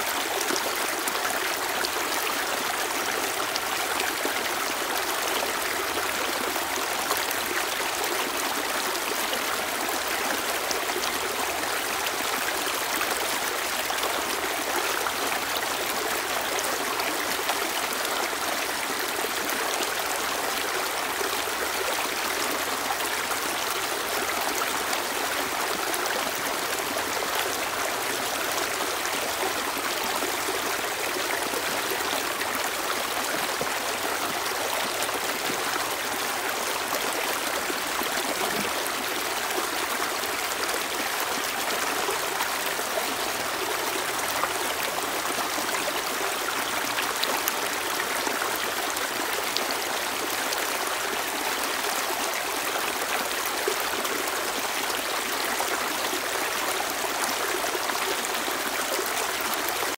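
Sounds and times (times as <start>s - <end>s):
stream water pouring over rocks: 0.0s - 59.9s.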